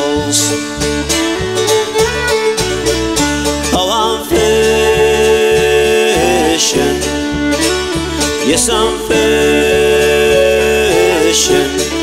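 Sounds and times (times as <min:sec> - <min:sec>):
country song: 0:00.0 - 0:12.0.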